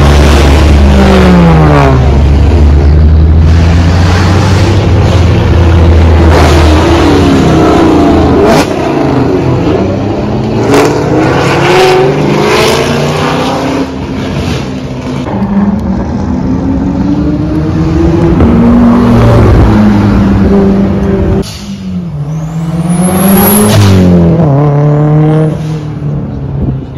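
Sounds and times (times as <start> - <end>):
cars revving and accelerating: 0.0 - 26.9.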